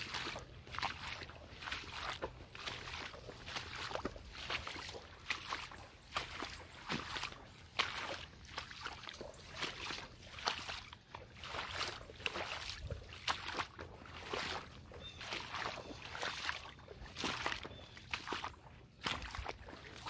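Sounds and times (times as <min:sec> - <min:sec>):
boots sloshing through water: 0:00.0 - 0:20.0.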